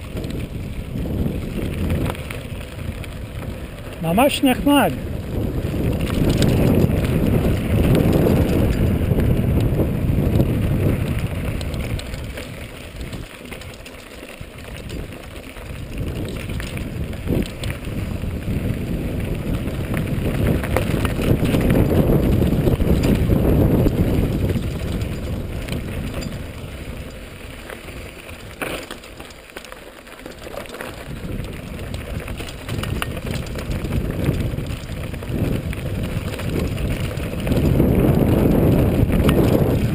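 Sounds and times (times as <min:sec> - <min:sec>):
wind noise on microphone: 0:00.0 - 0:28.7, 0:30.8 - 0:39.9
bike tyres crunching on stones: 0:00.0 - 0:39.9.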